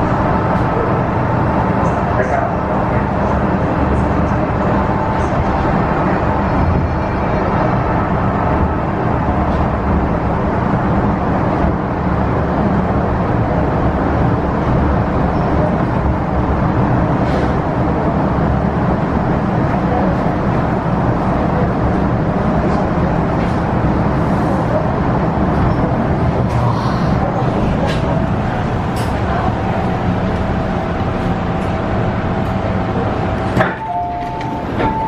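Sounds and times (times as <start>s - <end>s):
electric train rumbling: 0.0s - 35.0s.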